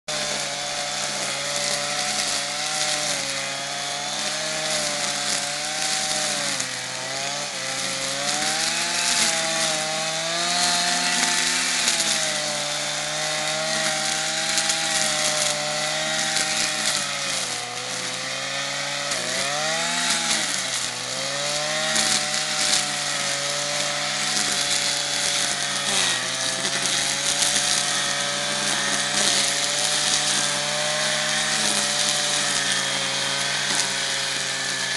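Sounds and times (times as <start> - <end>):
brushcutter engine cutting weeds: 0.1 - 34.9.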